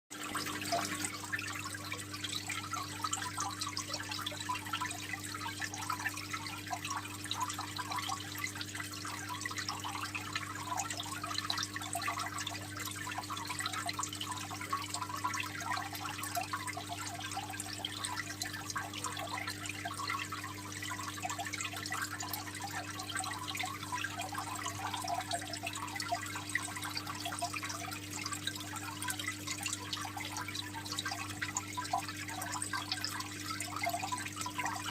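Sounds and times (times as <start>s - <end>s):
aquarium water trickling: 0.1s - 34.9s.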